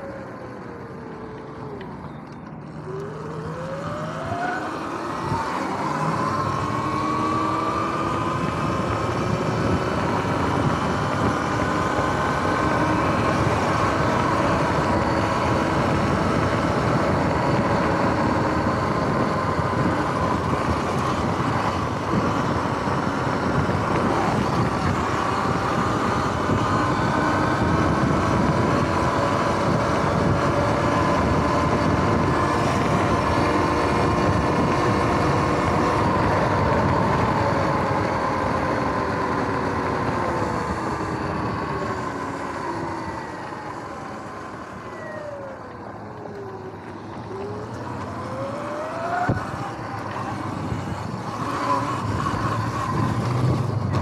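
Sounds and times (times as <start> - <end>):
electric motor whining: 0.0 - 54.0
wind noise: 3.9 - 43.9, 46.4 - 54.0.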